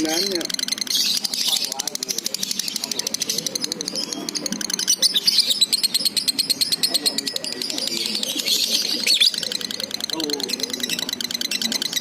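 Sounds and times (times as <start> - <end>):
lovebird singing rapid chatter: 0.0 - 12.0.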